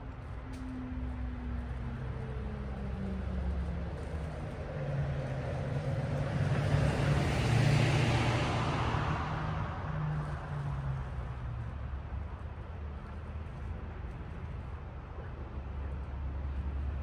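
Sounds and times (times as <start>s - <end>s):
tyre and road noise: 0.0s - 17.0s
vehicle engine hum: 0.0s - 17.0s.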